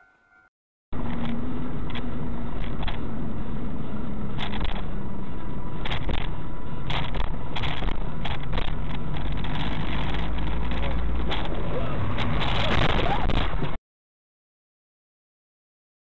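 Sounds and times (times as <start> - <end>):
car road and engine noise: 0.9 - 13.8.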